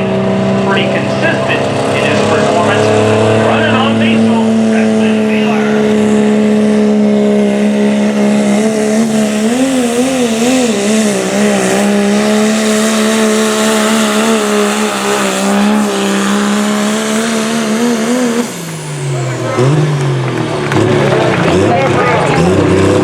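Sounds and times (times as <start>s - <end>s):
pulling truck engine running hard: 0.0s - 23.0s.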